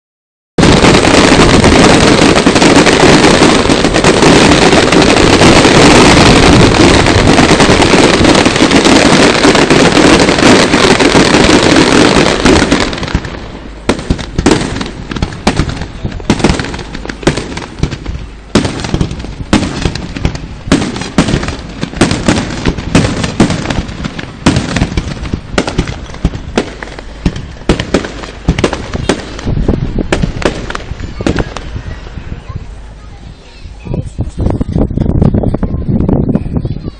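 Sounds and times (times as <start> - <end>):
fireworks bangs and crackles: 0.6 - 36.9.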